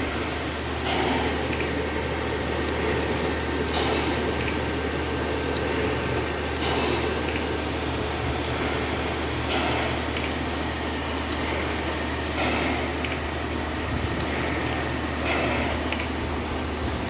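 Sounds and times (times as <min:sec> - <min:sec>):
ventilator blower hum: 0:00.0 - 0:17.0.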